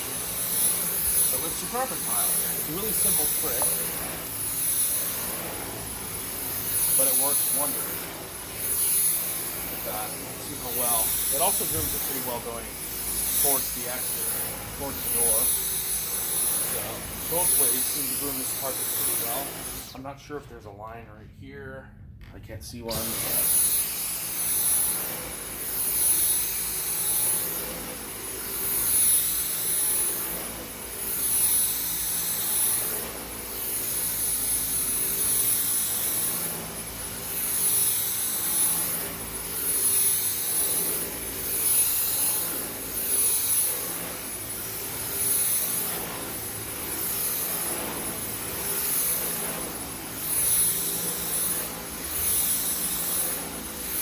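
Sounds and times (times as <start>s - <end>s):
vacuum cleaner running over carpet: 0.0s - 20.1s, 22.9s - 54.0s.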